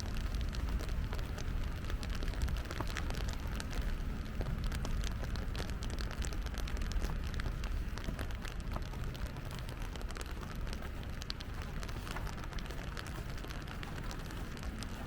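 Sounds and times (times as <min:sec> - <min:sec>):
rain drops ticking on street: 0:00.0 - 0:15.0
steady low rumble: 0:00.0 - 0:15.0.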